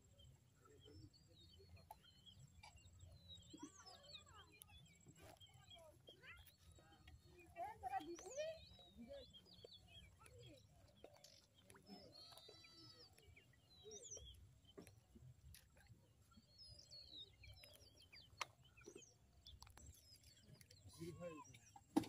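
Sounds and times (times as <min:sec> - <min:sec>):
bird chirps: 0:00.1 - 0:22.0.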